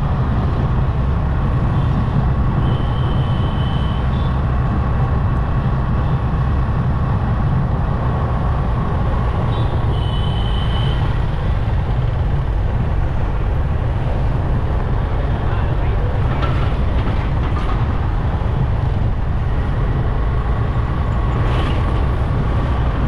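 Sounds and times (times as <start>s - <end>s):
motorbike engine and road noise: 0.0s - 23.0s.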